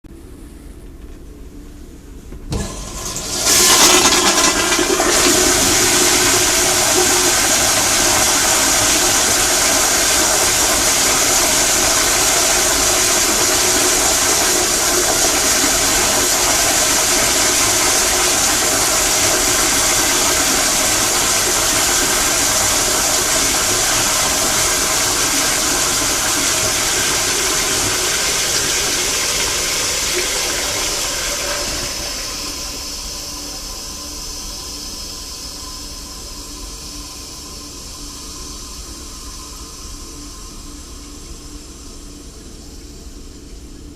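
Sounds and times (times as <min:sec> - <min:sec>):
toilet flushing: 0:02.5 - 0:43.9.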